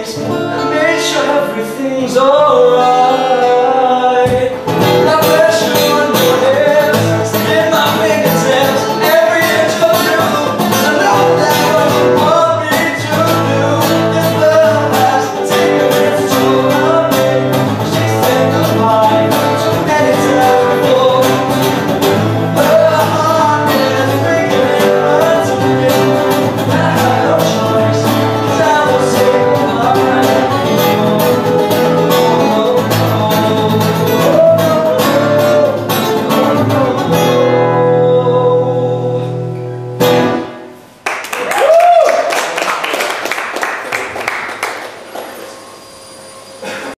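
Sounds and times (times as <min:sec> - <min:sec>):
acoustic guitars playing: 0:00.0 - 0:41.2.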